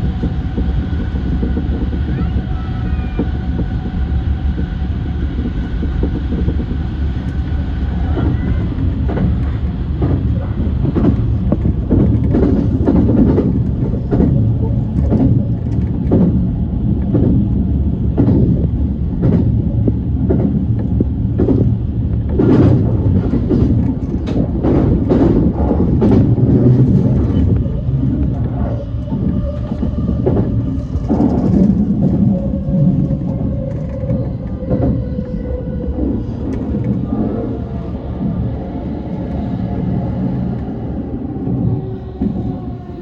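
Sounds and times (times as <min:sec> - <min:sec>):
electric train rumbling: 0:00.0 - 0:43.0
thin train whine: 0:00.0 - 0:43.0.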